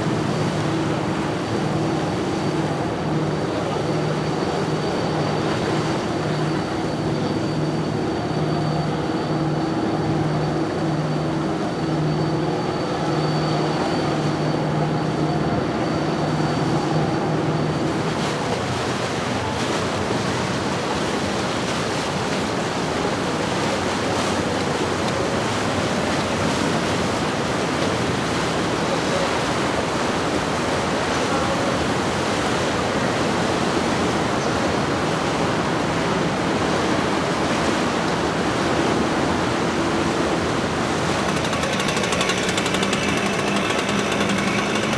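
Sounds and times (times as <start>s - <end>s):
boat engines humming: 0.0s - 44.9s
churning water: 0.0s - 44.9s
wind: 0.0s - 44.9s.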